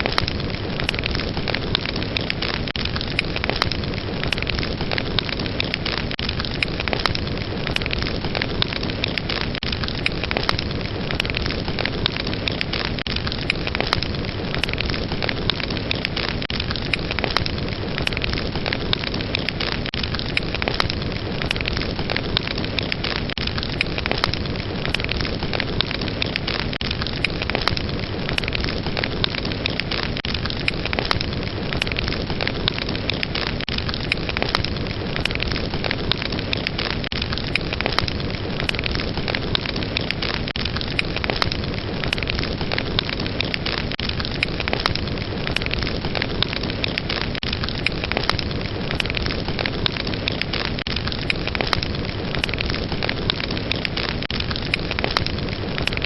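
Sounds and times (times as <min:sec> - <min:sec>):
fireplace fire crackling and popping: 0:00.0 - 0:56.0.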